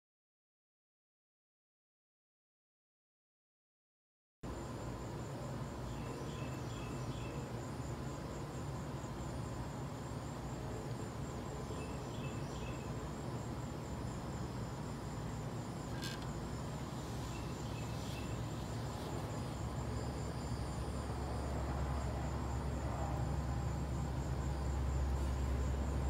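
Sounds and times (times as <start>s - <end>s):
insects chirping: 4.5s - 26.0s.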